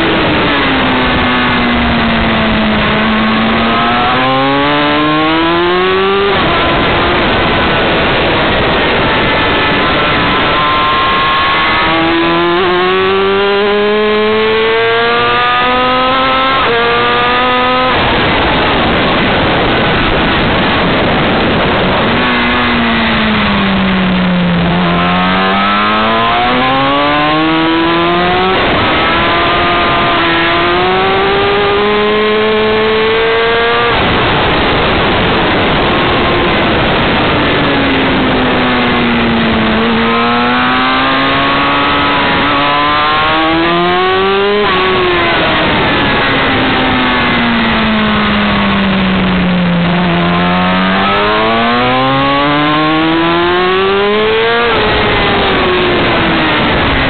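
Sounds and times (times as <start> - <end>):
motorcycle engine racing: 0.0 - 57.0
wind rush on microphone: 0.0 - 57.0.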